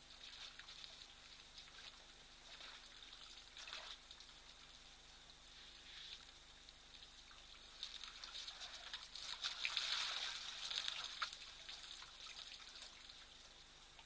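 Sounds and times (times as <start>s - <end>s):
water splashing and dripping: 0.0s - 5.4s, 6.1s - 14.0s.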